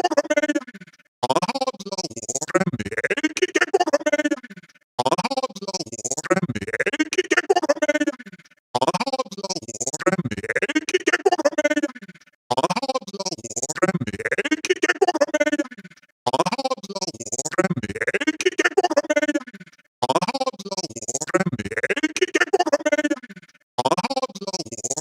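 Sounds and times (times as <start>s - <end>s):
stuttering robotic voice: 0.0s - 25.0s.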